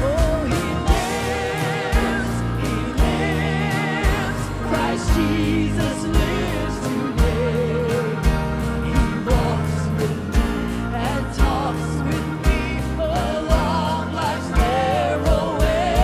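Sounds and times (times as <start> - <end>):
gospel band playing: 0.0 - 16.0
man and woman singing: 0.0 - 16.0.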